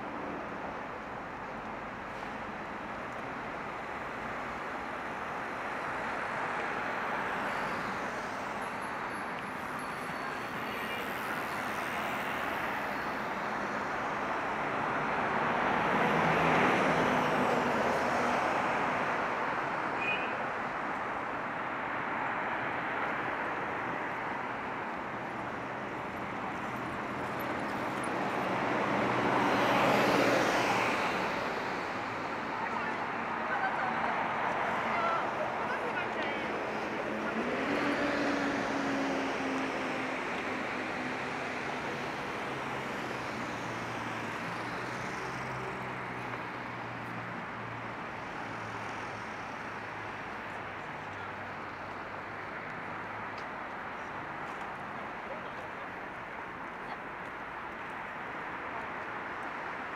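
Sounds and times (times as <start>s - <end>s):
road traffic: 0.0s - 59.9s.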